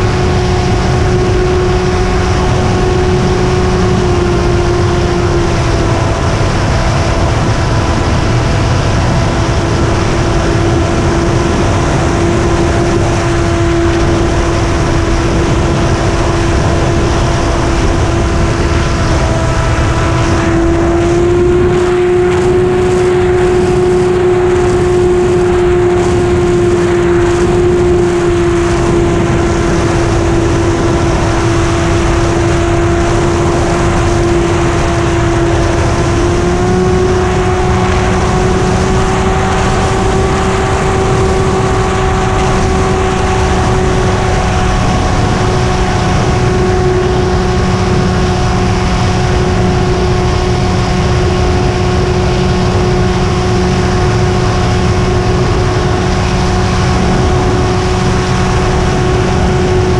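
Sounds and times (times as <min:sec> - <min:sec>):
model airplane engine droning: 0:00.0 - 0:59.9
wind rushing over microphone: 0:00.0 - 0:59.9.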